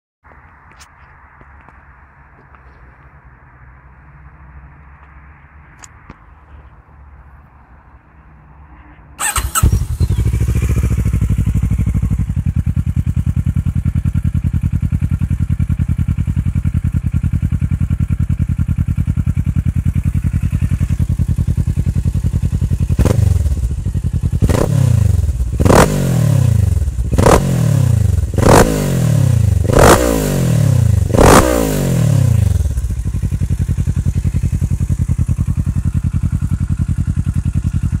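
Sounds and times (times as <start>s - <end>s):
motorcycle engine idling and revving: 0.3s - 38.0s.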